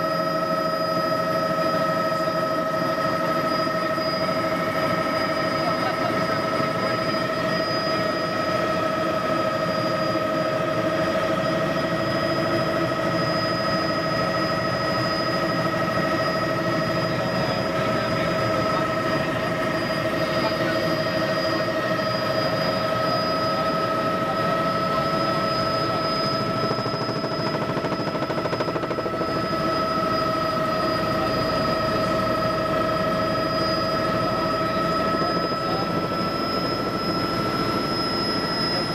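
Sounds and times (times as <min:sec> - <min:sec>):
helicopter cabin drone: 0:00.0 - 0:38.9.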